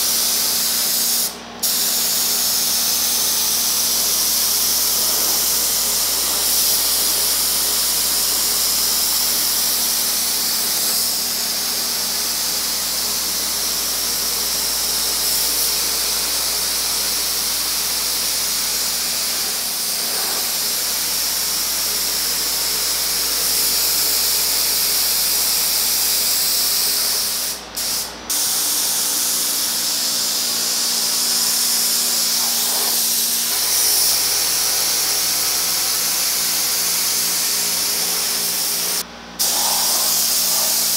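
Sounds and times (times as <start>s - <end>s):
spray gun hissing: 0.0s - 40.9s.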